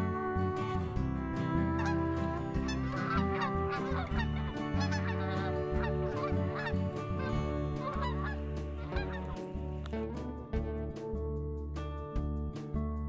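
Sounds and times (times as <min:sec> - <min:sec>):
instrumental background music: 0:00.0 - 0:13.0.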